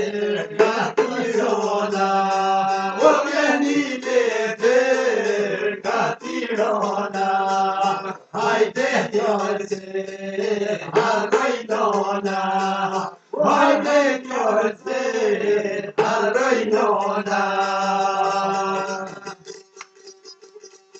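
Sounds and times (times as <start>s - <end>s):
men singing folk song: 0.0s - 19.4s
lute strummed quickly: 0.3s - 14.0s, 16.0s - 20.9s.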